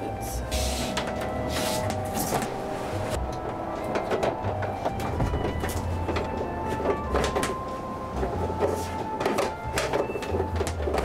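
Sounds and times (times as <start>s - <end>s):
steady high tone: 0.0s - 9.2s
low hum: 0.2s - 9.2s.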